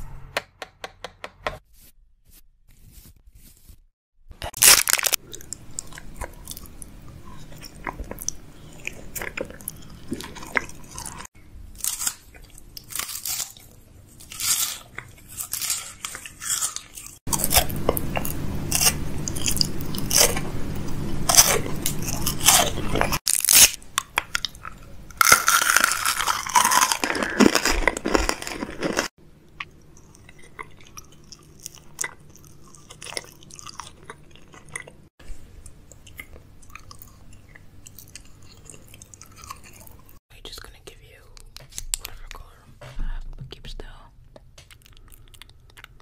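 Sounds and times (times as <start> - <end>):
food crunching and chewing: 4.4 - 40.2, 44.3 - 46.0.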